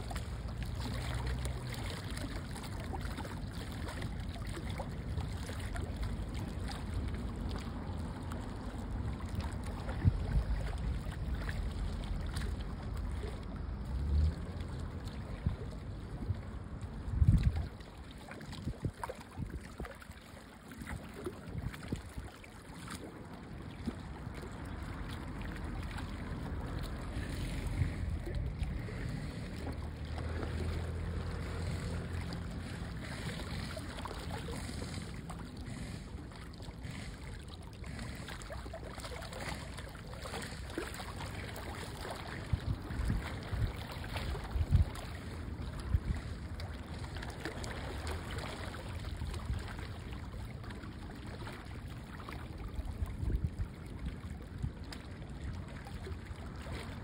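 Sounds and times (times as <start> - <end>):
boat motor rumbling: 0.0 - 19.8, 20.5 - 57.0.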